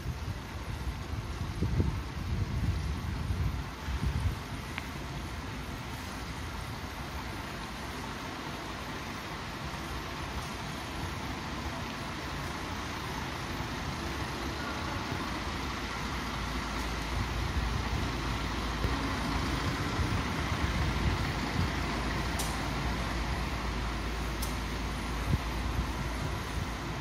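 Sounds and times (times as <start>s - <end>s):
bus engine idling: 0.0s - 27.0s
traffic noise: 0.0s - 27.0s.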